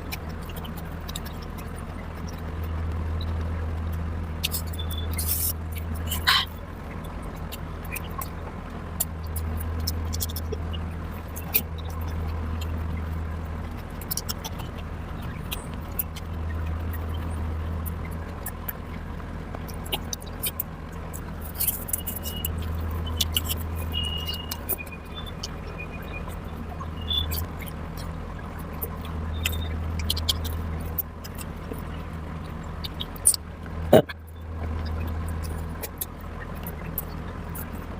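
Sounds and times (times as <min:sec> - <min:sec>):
chewing and lip-smacking: 0:00.0 - 0:37.9
steady low hum: 0:00.0 - 0:37.9.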